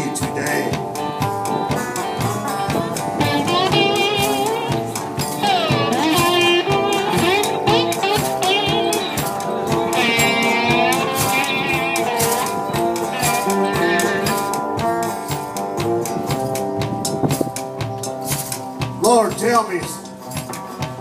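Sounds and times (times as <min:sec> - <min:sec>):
amplified guitars with bending notes: 0:00.0 - 0:21.0
steady rattling beat: 0:00.0 - 0:21.0.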